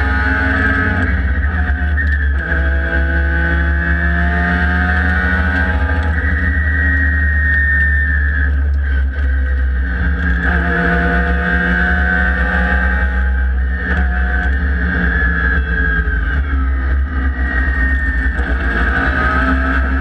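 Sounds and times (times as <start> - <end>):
race car engine running: 0.0 - 20.0.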